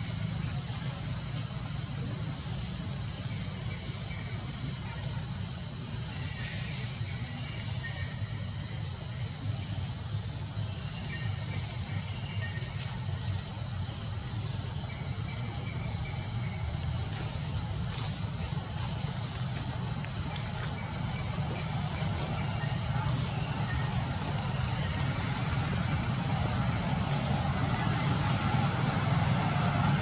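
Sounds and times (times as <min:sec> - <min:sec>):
insects buzzing: 0:00.0 - 0:30.0
low steady rumble: 0:00.0 - 0:30.0.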